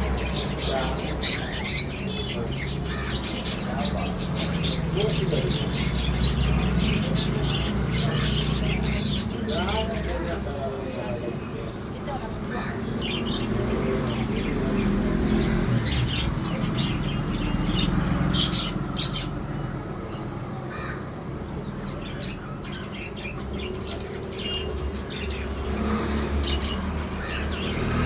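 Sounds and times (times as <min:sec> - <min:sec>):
birds calling: 0:00.0 - 0:28.0.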